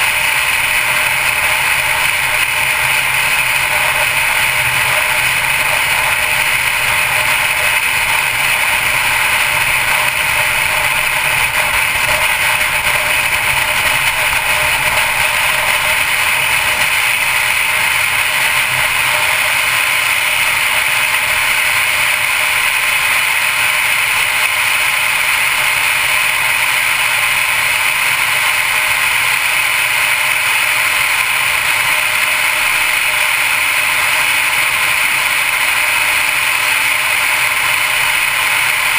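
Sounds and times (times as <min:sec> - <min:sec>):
car tyre and wind noise: 0:00.0 - 0:38.9.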